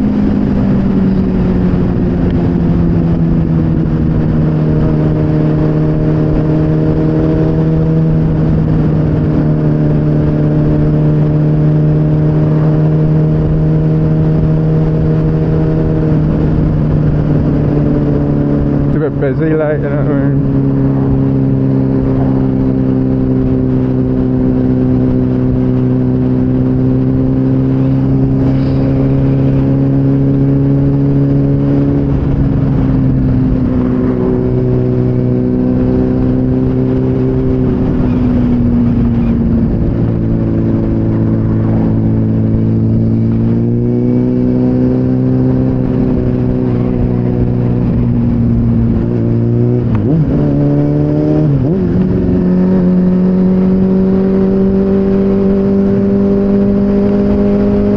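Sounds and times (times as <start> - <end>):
low wind rush: 0.0 - 57.9
motorcycle engine revving: 0.0 - 57.9.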